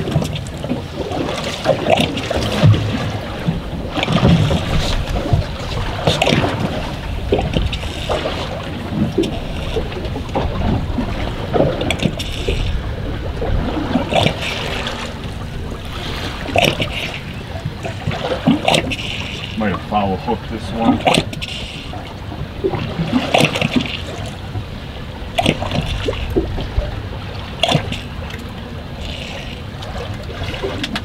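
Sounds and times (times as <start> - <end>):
water slapping against boat hull: 0.0 - 31.0
wind and sea rushing: 0.0 - 31.0.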